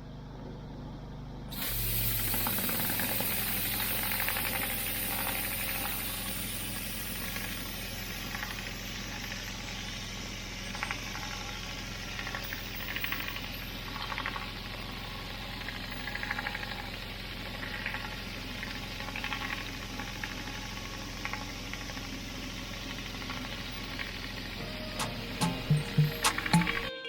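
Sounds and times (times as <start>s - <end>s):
high-pressure water spray hissing: 1.5s - 26.9s
pressure washer engine running: 1.5s - 26.9s.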